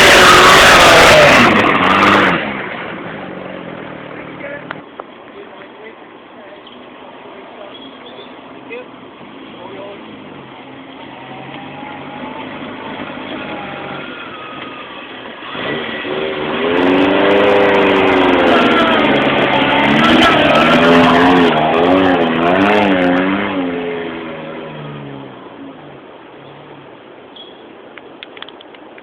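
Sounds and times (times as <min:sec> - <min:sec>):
car engine revving uphill: 0:00.0 - 0:06.3, 0:08.3 - 0:27.3.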